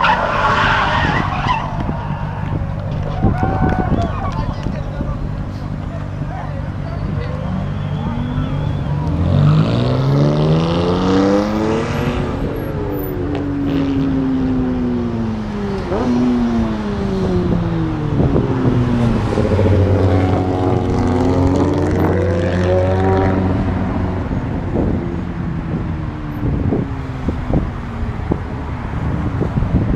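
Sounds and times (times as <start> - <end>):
car engines revving past: 0.0 - 29.9.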